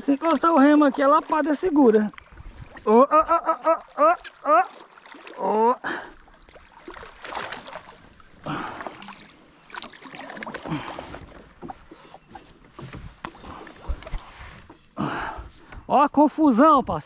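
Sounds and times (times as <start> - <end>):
paddle splashing in water: 0.0 - 15.9.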